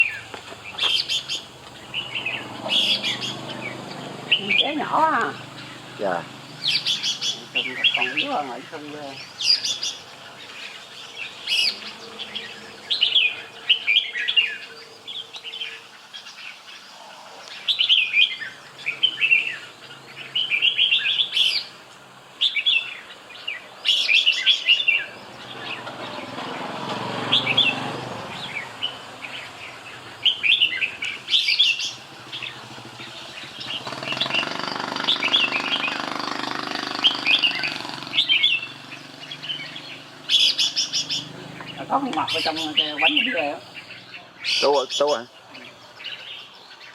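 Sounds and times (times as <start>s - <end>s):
bird singing chirpy phrases: 0.0s - 46.9s.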